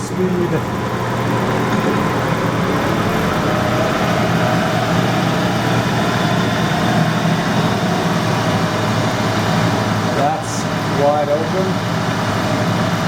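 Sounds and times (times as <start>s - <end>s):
metal lathe humming and whining: 0.0s - 13.0s.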